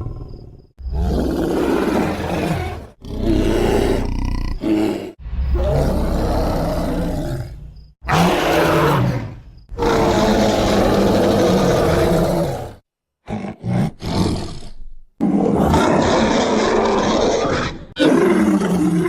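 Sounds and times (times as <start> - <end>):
bear roaring: 0.0 - 19.0.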